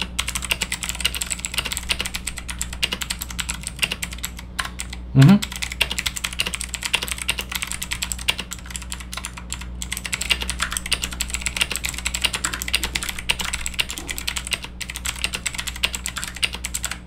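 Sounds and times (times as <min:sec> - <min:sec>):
fast typing on mechanical keyboard: 0:00.0 - 0:17.0.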